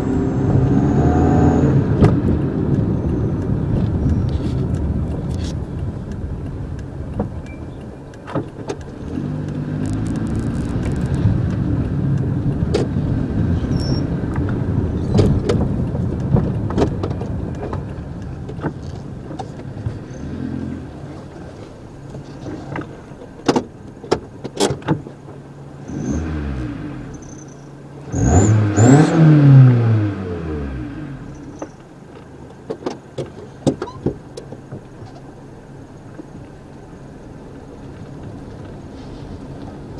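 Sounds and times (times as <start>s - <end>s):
car engine running and revving: 0.0s - 39.9s
engine knocks: 0.0s - 39.9s.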